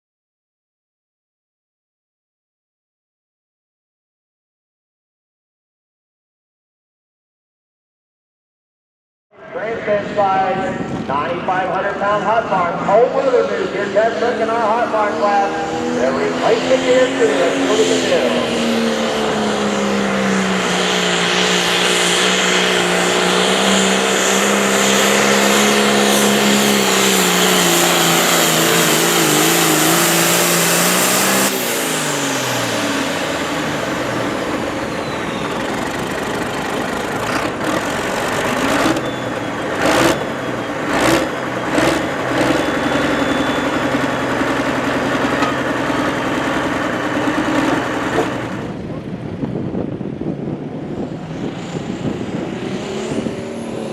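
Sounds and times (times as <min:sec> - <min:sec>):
engine throttle blips: 0:09.4 - 0:53.9
tractor engine at full throttle: 0:09.4 - 0:53.9.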